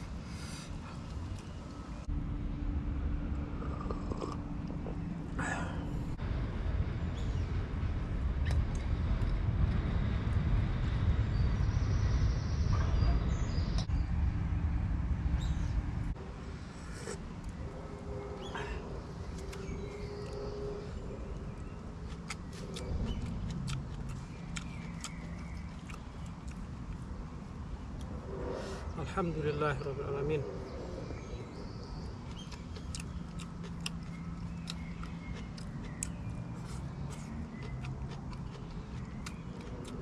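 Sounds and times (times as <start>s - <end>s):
dense low rumble: 1.0s - 40.0s.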